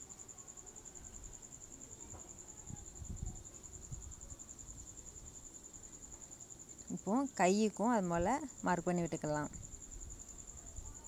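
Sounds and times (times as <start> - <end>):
cricket trilling: 0.0 - 11.0.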